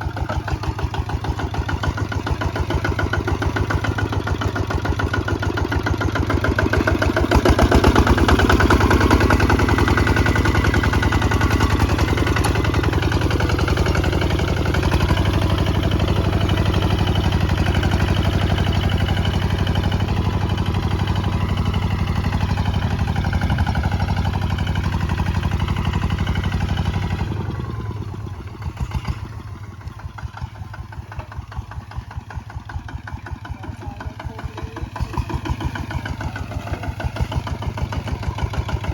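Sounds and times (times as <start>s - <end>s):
diesel tractor engine chugging: 0.0s - 38.9s.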